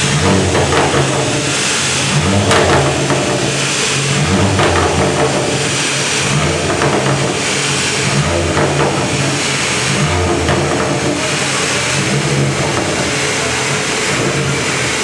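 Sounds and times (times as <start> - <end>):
car engine with loud exhaust: 0.0 - 15.0.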